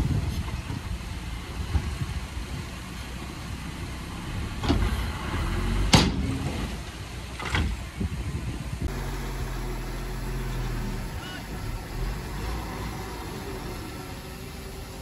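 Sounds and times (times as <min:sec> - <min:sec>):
diesel machinery rumbling: 0:00.0 - 0:15.0.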